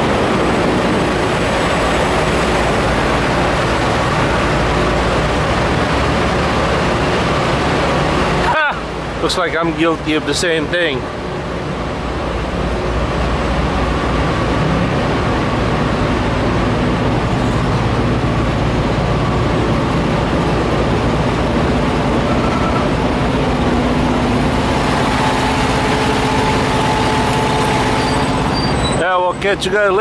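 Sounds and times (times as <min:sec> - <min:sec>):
diesel truck engines idling: 0:00.0 - 0:30.0.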